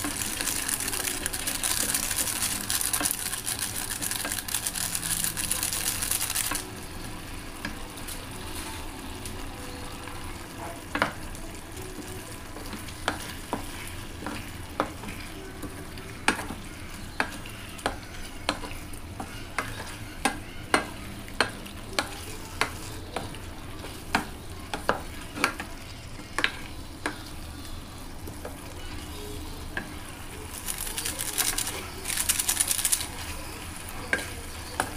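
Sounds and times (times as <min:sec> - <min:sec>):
food sizzling in a wok: 0:00.0 - 0:34.9.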